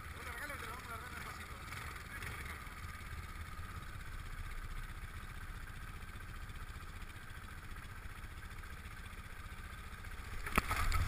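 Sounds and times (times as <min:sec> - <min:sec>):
quad bike engine idling: 0:00.0 - 0:11.0.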